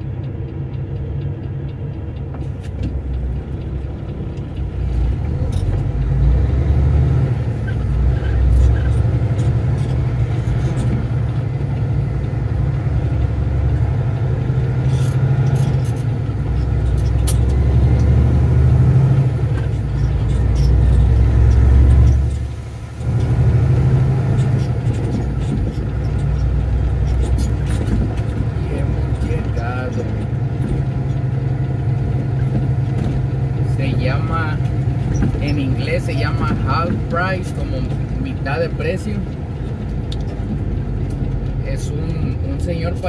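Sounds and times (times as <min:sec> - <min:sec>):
road and tyre noise: 0:00.0 - 0:43.0
truck diesel engine running: 0:00.0 - 0:43.0.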